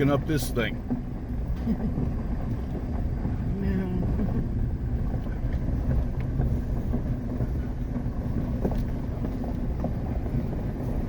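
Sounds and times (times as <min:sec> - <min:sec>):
truck engine running: 0:00.0 - 0:11.0
truck knocks and rattles: 0:00.0 - 0:11.0.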